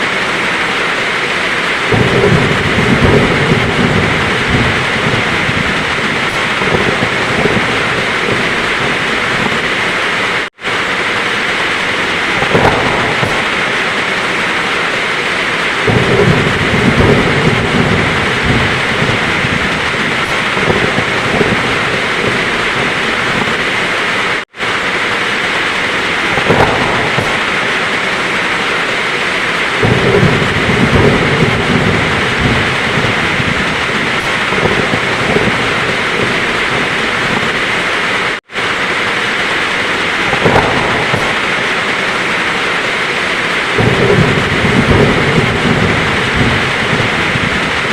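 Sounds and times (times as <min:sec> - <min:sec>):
heavy rain hissing: 0:00.0 - 0:47.9
thunder rumbling: 0:00.0 - 0:47.9.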